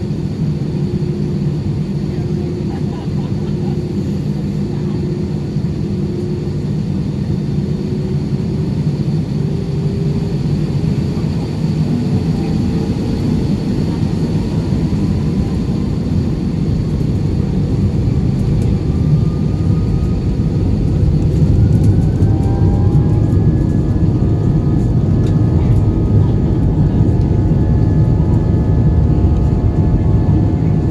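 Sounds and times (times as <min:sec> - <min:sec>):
jet engines spooling up: 0:00.2 - 0:30.9.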